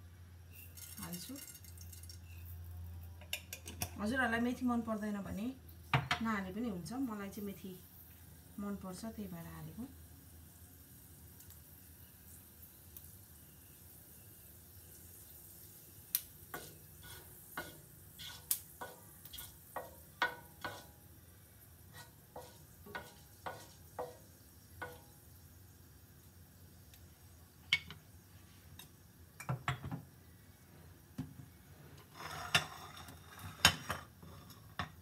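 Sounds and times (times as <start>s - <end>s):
seeds popping in hot oil: 0.4s - 4.6s, 5.8s - 30.0s.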